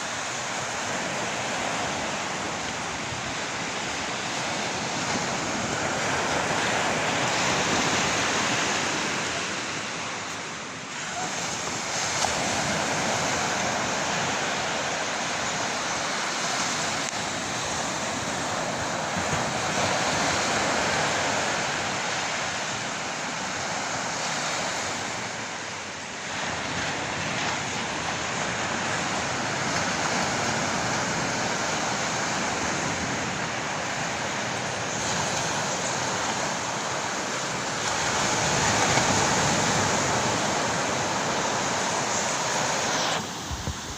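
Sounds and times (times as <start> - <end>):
waves breaking: 0.0 - 43.9.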